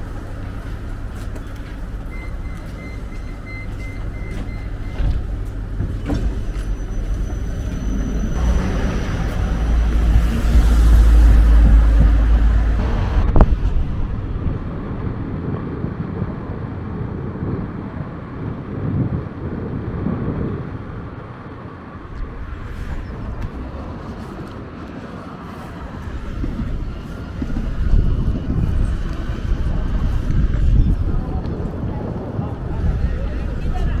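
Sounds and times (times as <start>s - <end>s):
tram rumbling: 0.0s - 34.0s.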